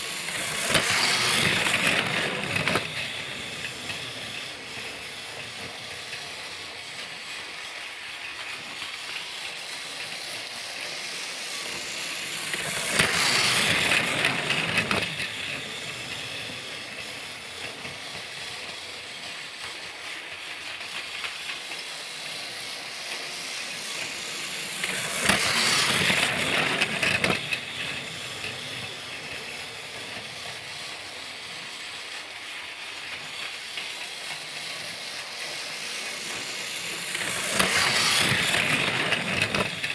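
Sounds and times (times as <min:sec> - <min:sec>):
toy train whirring and rattling: 0:00.0 - 0:39.9.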